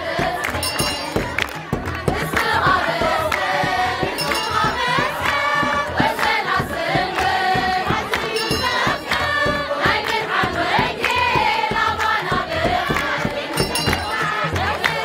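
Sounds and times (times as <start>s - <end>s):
crowd singing a hymn: 0.0s - 15.0s
hand-clapping: 0.0s - 15.0s
large hand drum beat: 0.0s - 15.0s.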